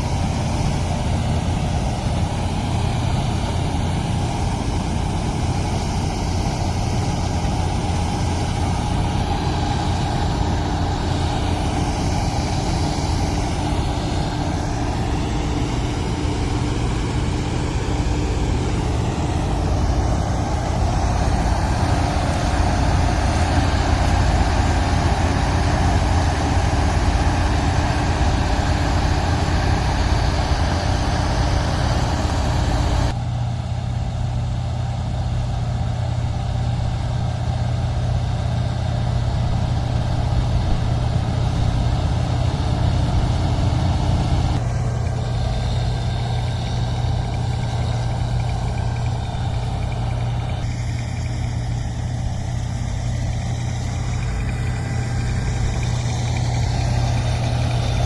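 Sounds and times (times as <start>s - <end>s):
high hissing: 0.0s - 33.1s, 43.4s - 58.0s
harvester engine humming: 0.0s - 58.0s.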